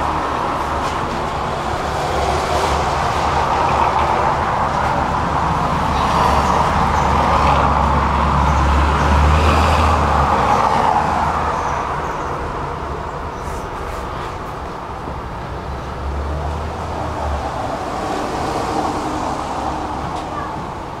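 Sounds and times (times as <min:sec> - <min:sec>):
tram low hum: 0:00.0 - 0:21.0
tram wheels rolling on rails: 0:00.0 - 0:21.0.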